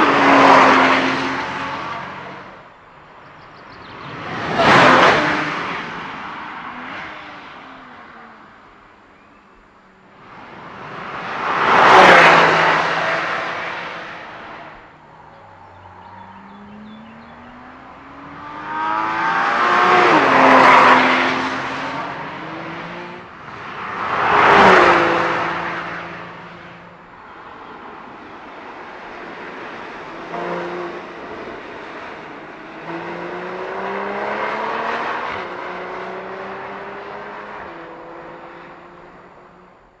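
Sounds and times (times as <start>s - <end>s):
cars passing at speed: 0.0s - 40.0s
sports car engines accelerating: 3.3s - 39.7s.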